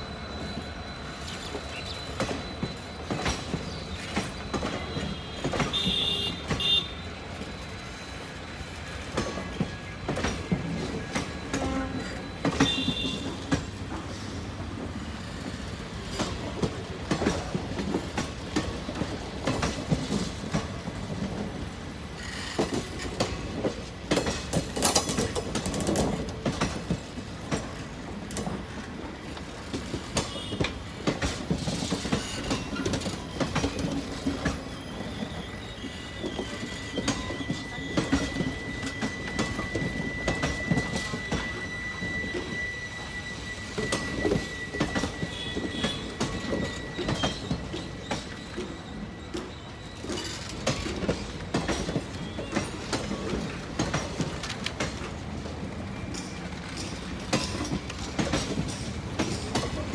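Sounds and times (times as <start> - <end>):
high wheel squeals: 0.0 - 26.8, 27.6 - 59.9
train wheels clattering over rail joints: 1.2 - 59.9.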